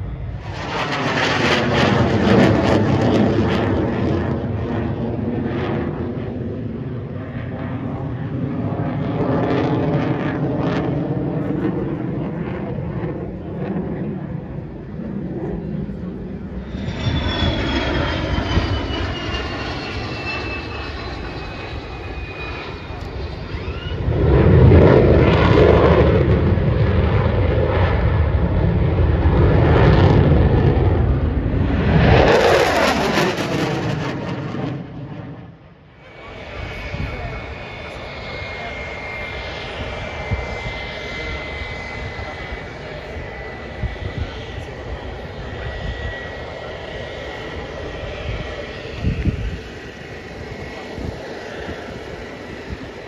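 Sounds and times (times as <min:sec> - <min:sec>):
aircraft engine rumble overhead: 0:00.0 - 0:53.0.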